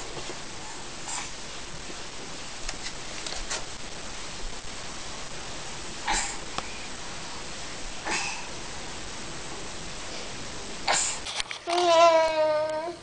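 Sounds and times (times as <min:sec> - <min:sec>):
room noise hiss: 0:00.0 - 0:13.0.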